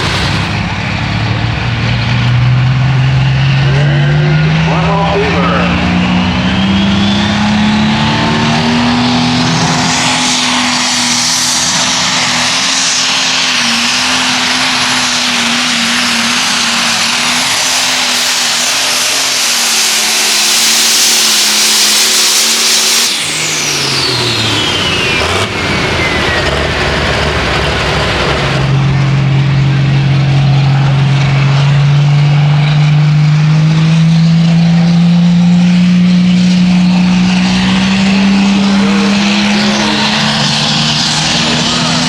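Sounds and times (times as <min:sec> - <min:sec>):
tractor engine at full throttle: 0:00.0 - 0:42.0
turbocharger whine: 0:00.0 - 0:42.0.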